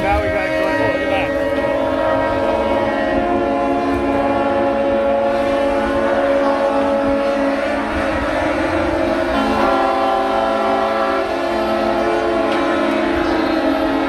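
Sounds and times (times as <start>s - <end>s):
yacht horns sounding together: 0.0s - 14.0s.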